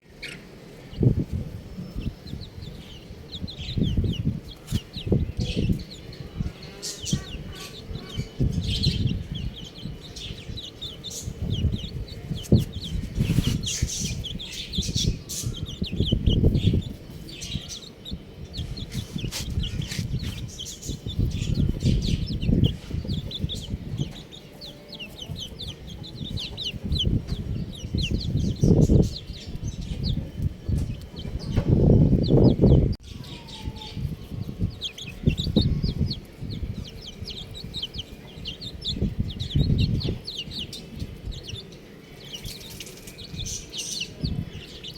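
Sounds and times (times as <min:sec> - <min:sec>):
baby chicks peeping: 0:00.0 - 0:44.9
low rumbling and thumping: 0:00.9 - 0:24.6, 0:25.2 - 0:41.7.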